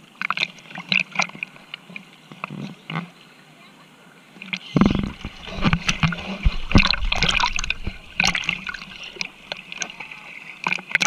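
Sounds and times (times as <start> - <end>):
sea water splashing: 0.0 - 11.0.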